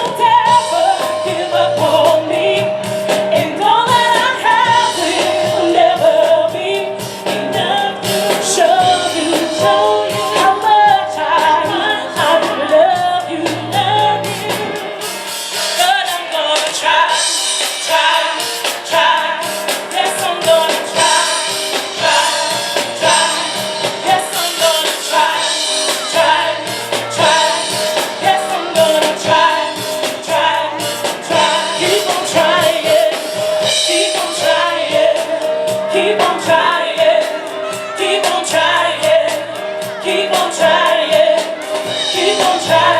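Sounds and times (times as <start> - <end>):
drum kit steady beat: 0.0 - 42.9
piano: 0.0 - 42.9
women singing gospel: 0.0 - 42.9.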